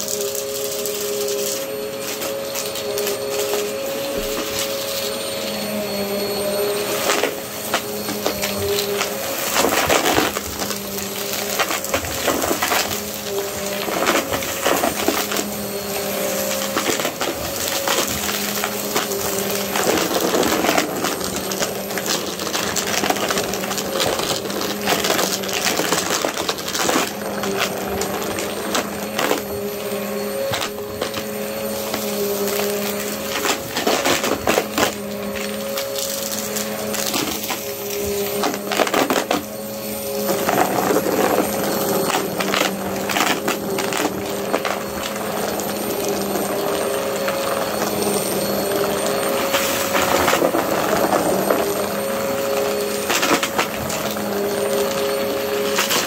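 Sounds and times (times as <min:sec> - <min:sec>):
vacuum cleaner motor hum: 0:00.0 - 0:56.0.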